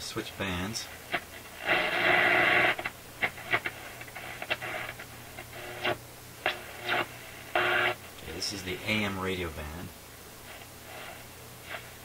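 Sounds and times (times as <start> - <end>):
radio crackle: 0.0 - 12.0
radio static buzzing: 0.0 - 12.0.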